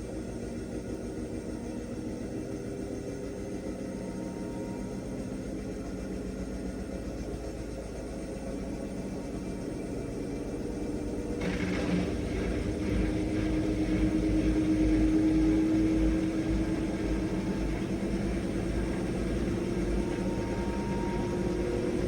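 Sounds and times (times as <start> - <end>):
washing machine spin cycle: 0.0 - 22.0.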